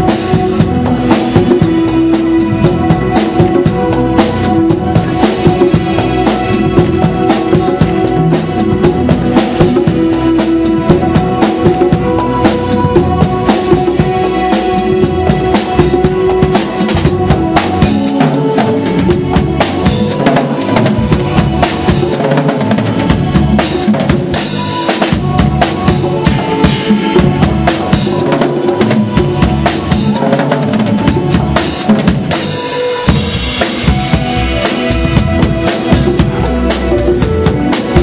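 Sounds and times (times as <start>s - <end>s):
busy drum kit: 0.0s - 38.0s
jazz-funk band playing: 0.0s - 38.0s.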